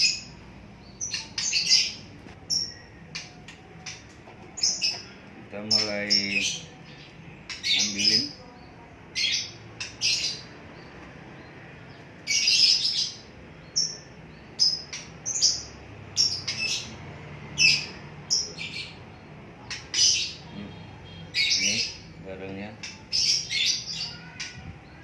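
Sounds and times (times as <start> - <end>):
cage bird chirping: 0.0 - 25.0.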